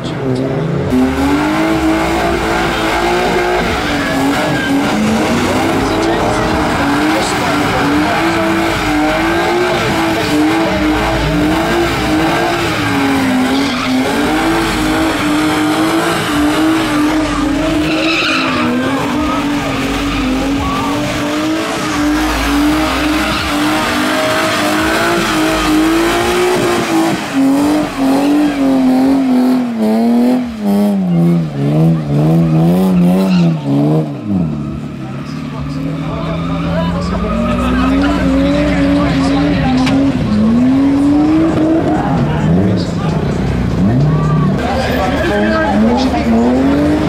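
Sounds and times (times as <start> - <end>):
car engine revving: 0.0 - 47.0
tyres screeching: 1.0 - 47.0.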